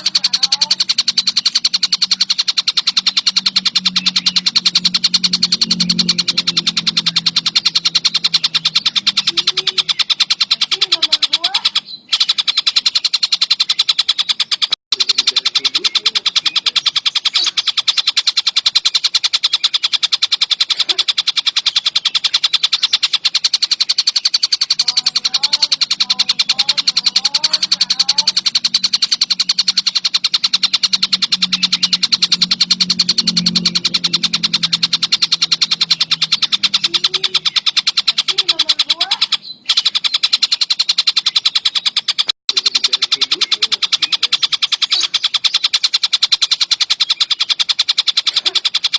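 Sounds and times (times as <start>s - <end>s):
faint low bird chirps: 0.0s - 48.9s
kingfisher chattering trill: 0.0s - 48.9s.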